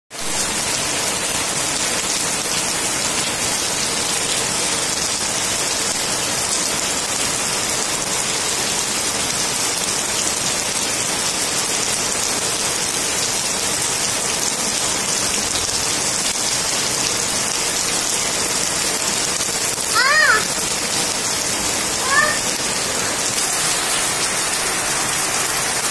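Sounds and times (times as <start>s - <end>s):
heavy rain pouring: 0.1s - 25.9s.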